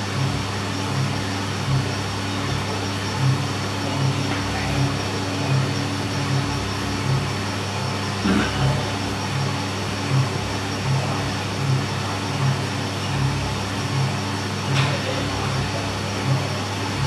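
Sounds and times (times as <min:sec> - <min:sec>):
coffee roaster motor and fan hum: 0:00.0 - 0:17.0.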